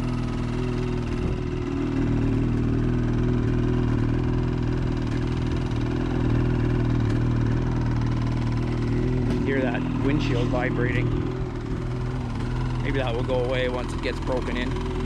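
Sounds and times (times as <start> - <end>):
snowmobile engine idling: 0.0 - 15.0.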